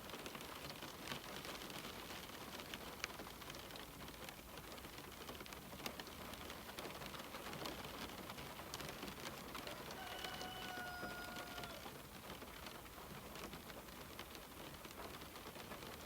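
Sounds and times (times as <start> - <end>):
rain on window pane: 0.0 - 16.0.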